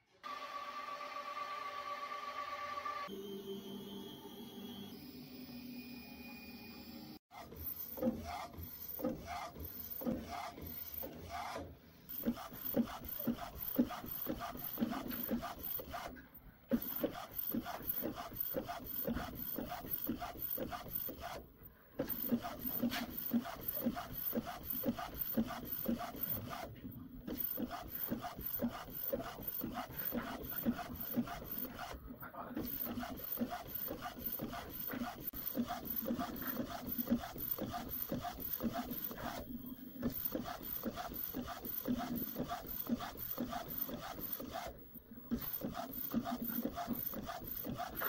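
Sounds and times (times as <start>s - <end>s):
printer carriage whirring: 7.5s - 48.0s.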